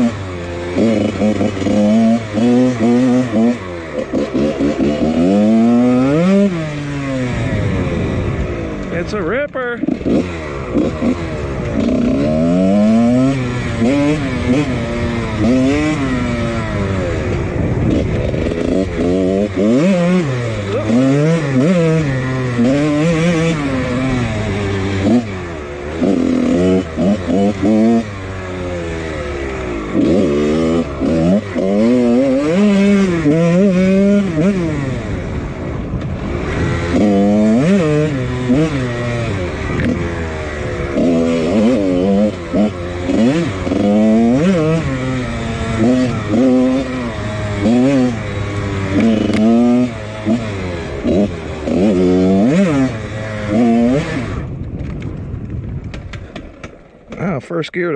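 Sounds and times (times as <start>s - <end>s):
two-stroke motorcycle engine revving: 0.0s - 57.9s.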